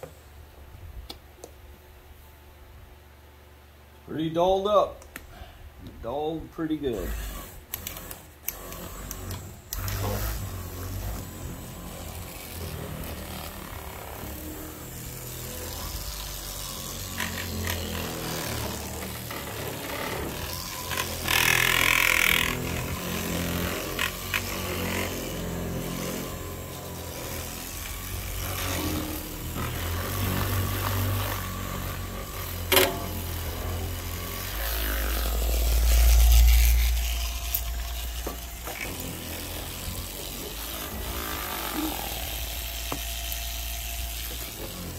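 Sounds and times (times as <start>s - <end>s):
electric polisher motor running: 7.0s - 44.9s.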